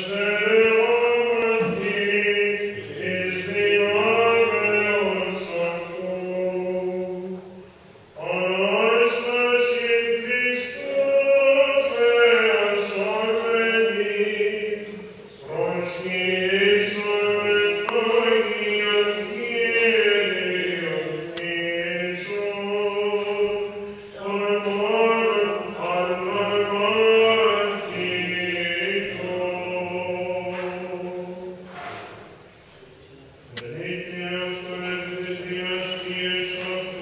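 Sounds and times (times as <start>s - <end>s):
solo chanter singing: 0.0s - 31.7s, 33.0s - 37.0s.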